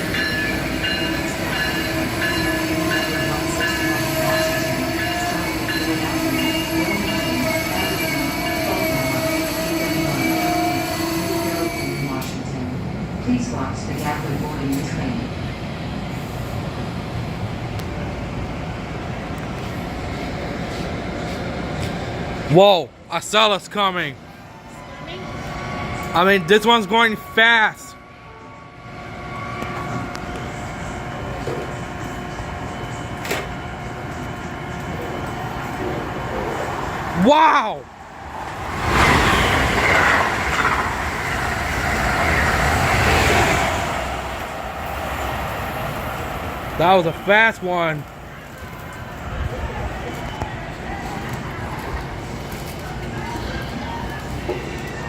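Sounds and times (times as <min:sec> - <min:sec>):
low rumble of train noise: 0:00.0 - 0:55.0.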